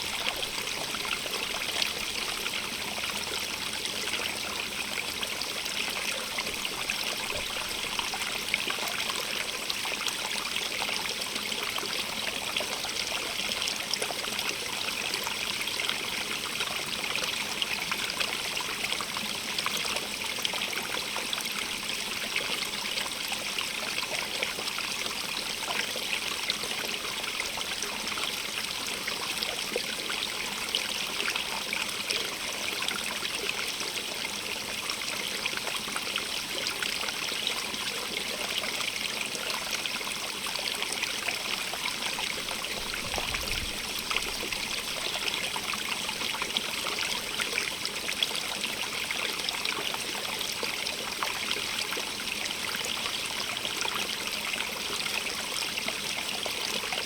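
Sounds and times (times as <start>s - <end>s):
stream running over stones: 0.0s - 57.0s.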